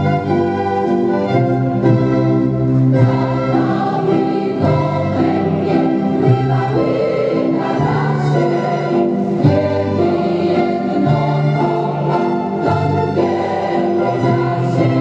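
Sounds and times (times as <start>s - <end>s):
waltz with organ-like chords: 0.0s - 15.0s.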